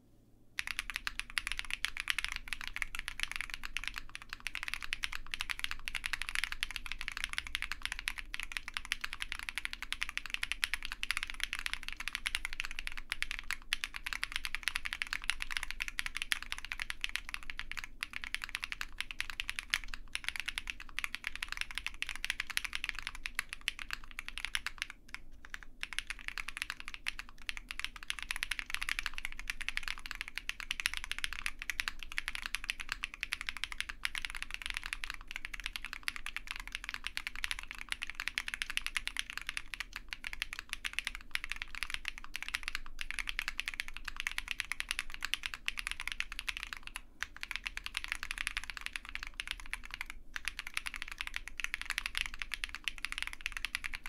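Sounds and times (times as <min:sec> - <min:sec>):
mechanical keyboard typing: 0:00.6 - 0:54.0.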